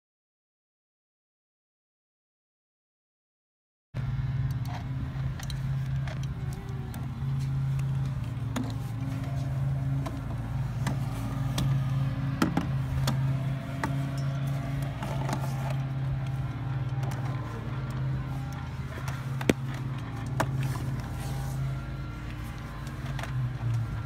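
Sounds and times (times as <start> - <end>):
motor humming: 4.0 - 24.0.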